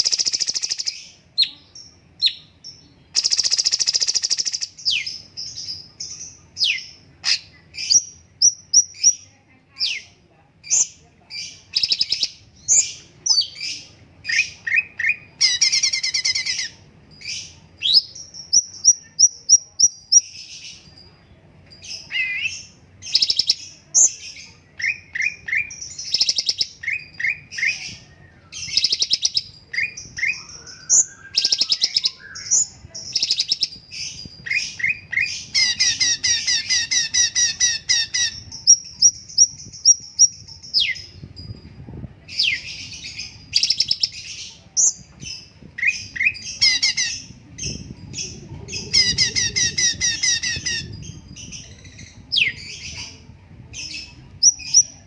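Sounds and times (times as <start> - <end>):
songbird chirping and trilling: 0.0 - 55.0.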